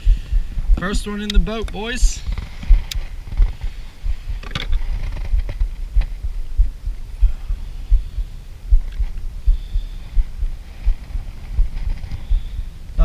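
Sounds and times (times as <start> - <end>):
low thumping rumble: 0.0 - 13.0.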